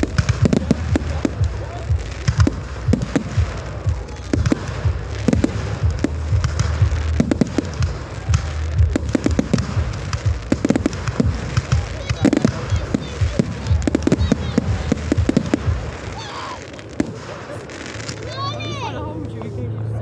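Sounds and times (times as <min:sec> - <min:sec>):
fireworks bangs and crackles: 0:00.0 - 0:20.0
steady low rumble: 0:00.0 - 0:20.0.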